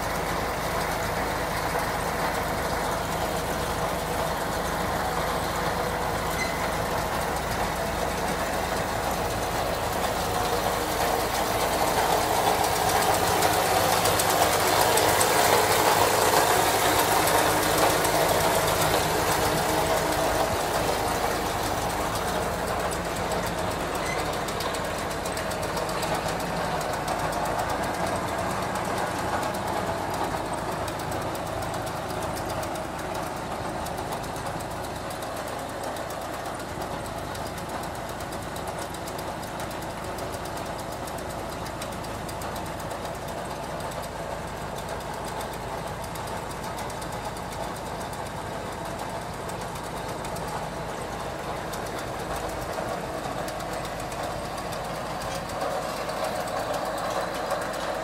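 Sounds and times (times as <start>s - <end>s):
engine knocking rhythmically: 0.0s - 58.0s.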